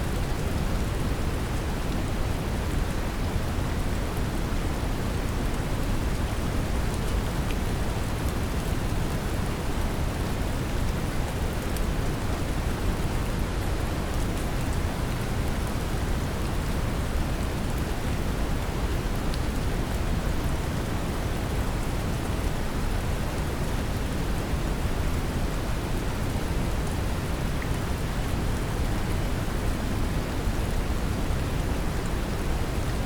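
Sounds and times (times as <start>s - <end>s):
gentle rain falling: 0.0s - 33.0s.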